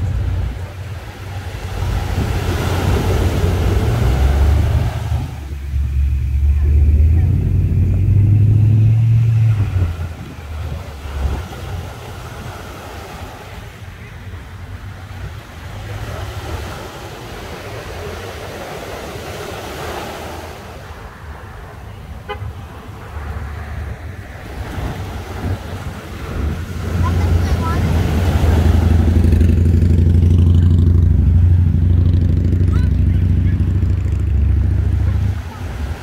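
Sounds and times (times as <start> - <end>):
road traffic rumble: 0.0 - 36.0
small waves on sandy shore: 0.0 - 36.0.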